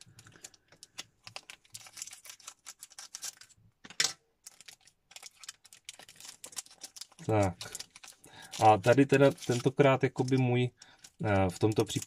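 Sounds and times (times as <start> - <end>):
foil wrapper crinkling: 0.0 - 3.6, 4.4 - 12.0.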